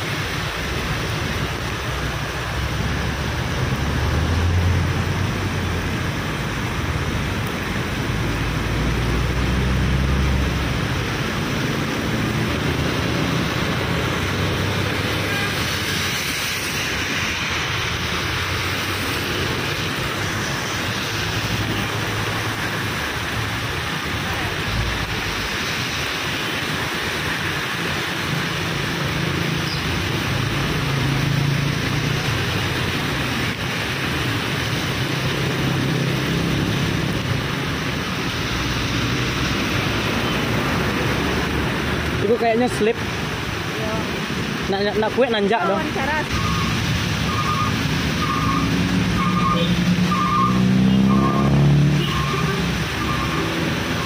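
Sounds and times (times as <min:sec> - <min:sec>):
rain: 0:00.0 - 0:54.0.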